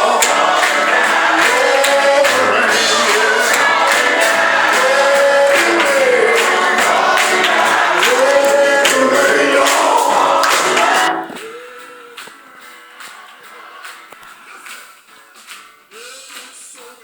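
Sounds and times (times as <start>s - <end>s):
gospel singing with band: 0.0s - 16.8s.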